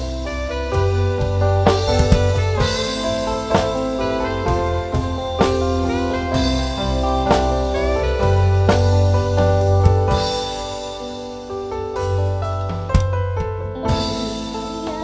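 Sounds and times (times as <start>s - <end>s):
heavy drum hits: 0.0s - 15.0s
instrumental band music: 0.0s - 15.0s.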